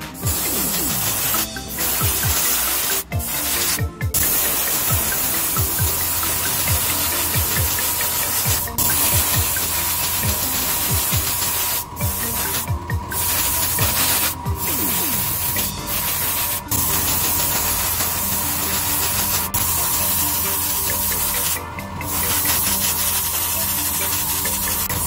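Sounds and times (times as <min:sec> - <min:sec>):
airbrush spraying hiss: 0:00.0 - 0:25.0.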